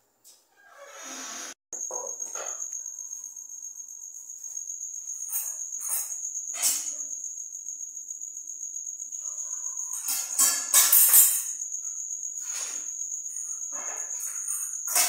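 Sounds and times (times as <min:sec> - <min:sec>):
high-pitched insect trill: 0:01.8 - 0:15.0.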